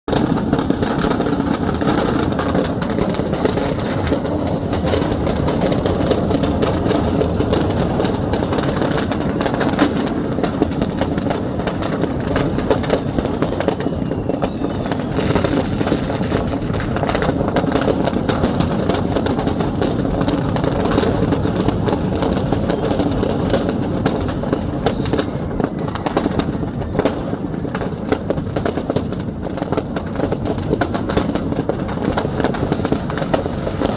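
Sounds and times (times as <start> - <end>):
firecrackers crackling and popping: 0.1 - 33.9.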